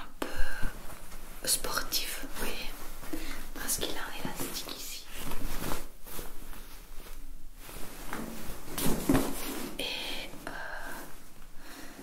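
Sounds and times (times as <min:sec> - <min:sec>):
fabric trousers rustling: 0:00.5 - 0:12.0.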